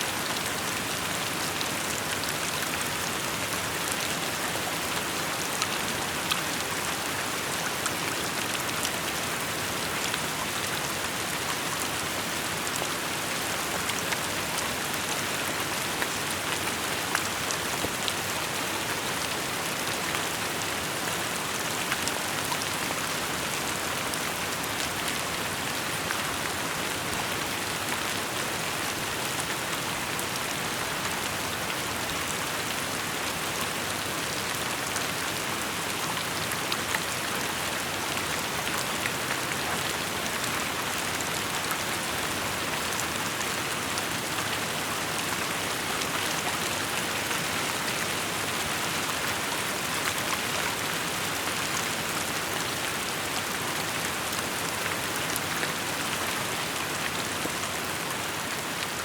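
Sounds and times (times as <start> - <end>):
rain falling: 0.1 - 59.0.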